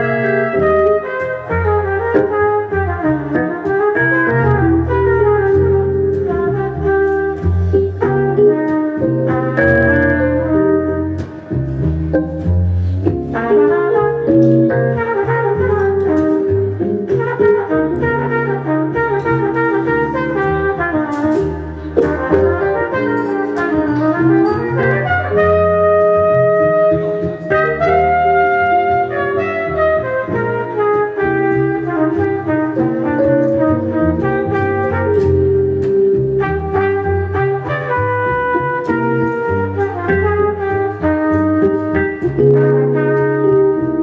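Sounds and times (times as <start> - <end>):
flugelhorn melody: 0.0 - 11.9, 13.1 - 44.0
plucked double bass: 0.0 - 44.0.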